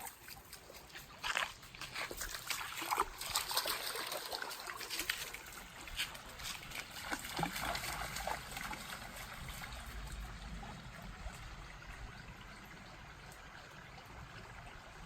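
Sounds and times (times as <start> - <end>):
stream water running: 0.0 - 15.0
water splashes: 0.0 - 15.0.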